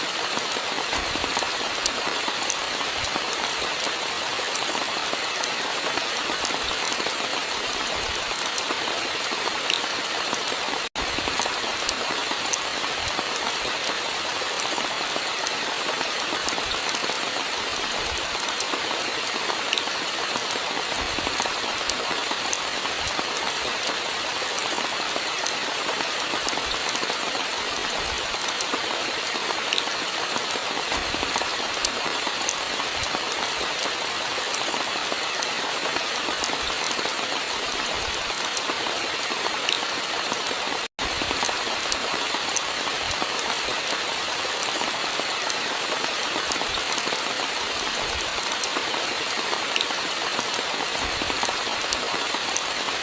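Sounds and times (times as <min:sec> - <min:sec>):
steady rainfall hiss: 0:00.0 - 0:53.0.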